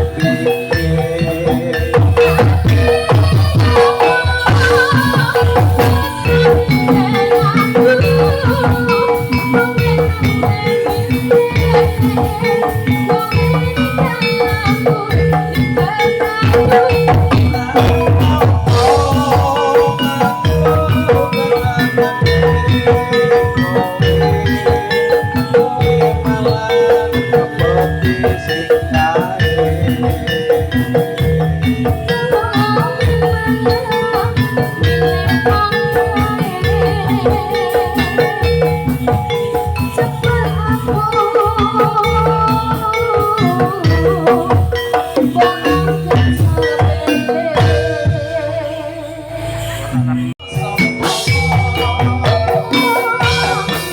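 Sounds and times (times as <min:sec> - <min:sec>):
drum beat: 0:00.0 - 0:48.3, 0:50.4 - 0:53.9
gamelan music over loudspeakers: 0:00.0 - 0:53.9.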